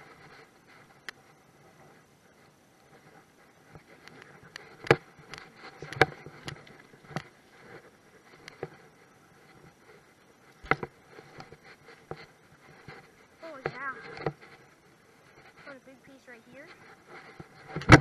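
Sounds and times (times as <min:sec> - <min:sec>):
clothing and fronds rustling on microphone: 0:00.0 - 0:18.0.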